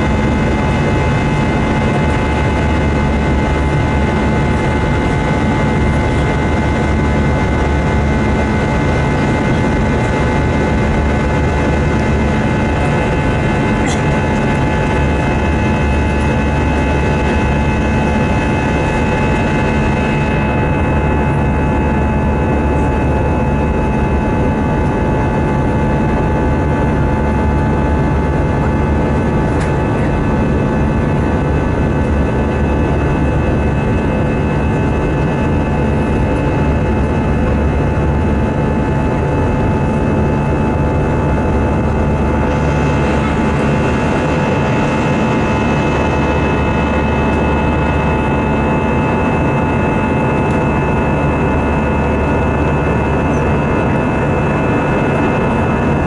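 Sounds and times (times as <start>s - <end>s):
jet engine drone in cabin: 0.0s - 56.0s
whining engine tones: 0.0s - 56.0s.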